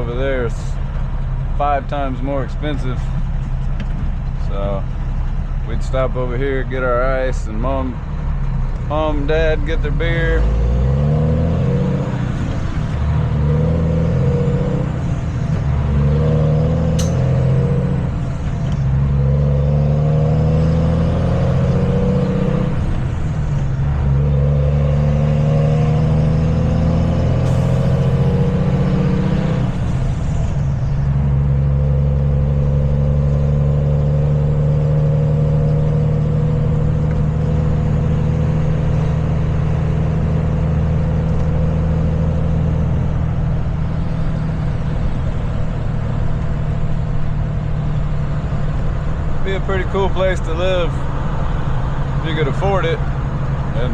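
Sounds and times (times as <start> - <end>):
truck engine shifting gears: 0.0 - 53.9.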